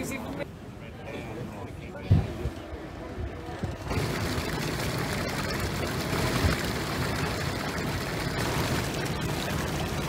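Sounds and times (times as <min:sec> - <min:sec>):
low engine rumble: 0:01.4 - 0:10.0.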